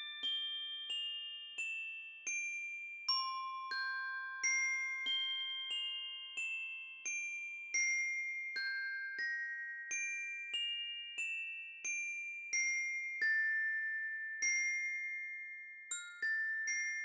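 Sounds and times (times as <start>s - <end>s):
glockenspiel melody: 0.0s - 17.0s.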